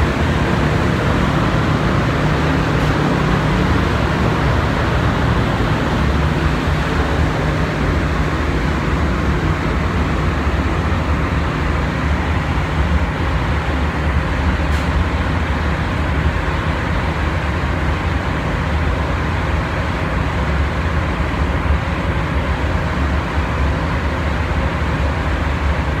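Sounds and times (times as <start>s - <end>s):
ventilation fans roaring: 0.0s - 26.0s.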